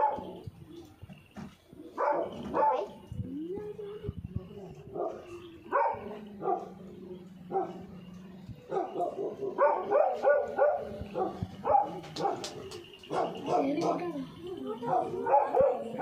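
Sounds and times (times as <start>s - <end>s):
dogs barking: 0.0s - 0.5s, 1.7s - 3.1s, 4.5s - 16.0s.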